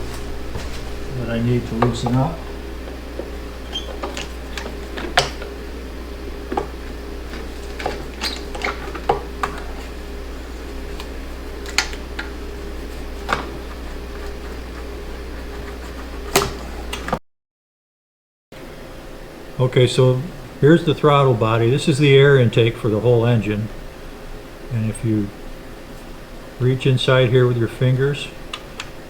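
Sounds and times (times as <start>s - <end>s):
steady low hum: 0.0s - 17.2s, 18.6s - 29.0s.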